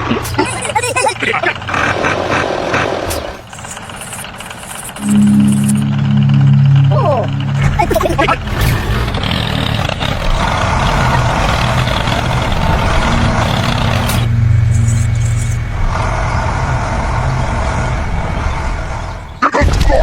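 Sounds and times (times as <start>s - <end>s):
vehicle engine humming: 0.0s - 19.4s.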